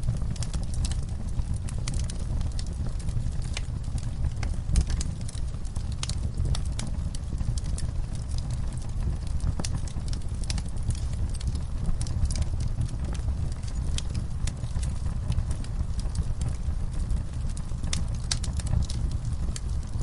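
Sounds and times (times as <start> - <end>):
fire flames rumbling: 0.0 - 20.0
wood fire crackles and pops: 0.0 - 20.0.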